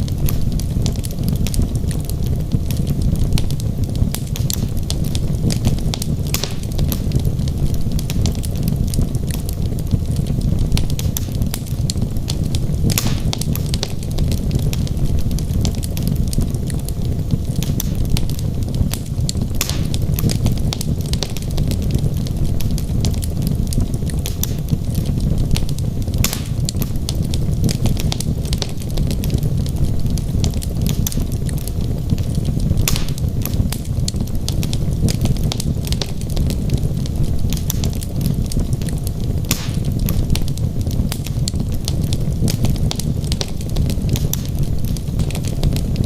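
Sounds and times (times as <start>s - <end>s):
fire crackling and popping: 0.0s - 46.0s
low rumble of flame: 0.0s - 46.0s.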